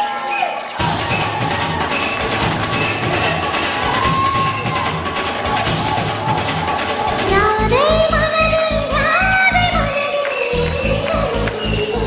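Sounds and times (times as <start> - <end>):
fusion dance music: 0.8 - 12.0.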